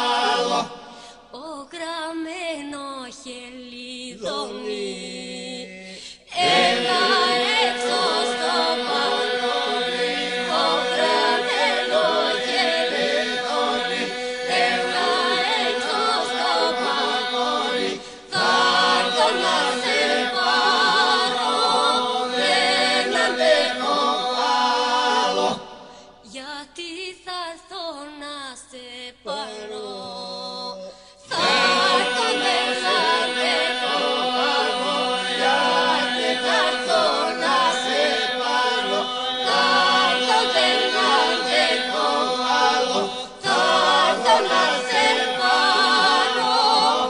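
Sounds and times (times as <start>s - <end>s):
unaccompanied polyphonic folk singing: 0.0s - 1.2s, 4.1s - 26.4s, 29.2s - 47.0s.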